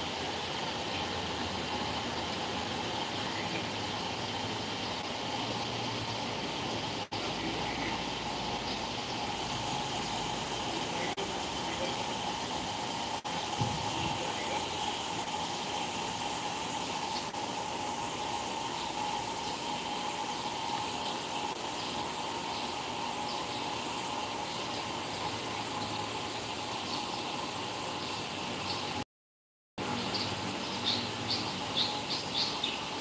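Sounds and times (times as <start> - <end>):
outdoor background hiss: 0.0 - 29.0, 29.8 - 33.0.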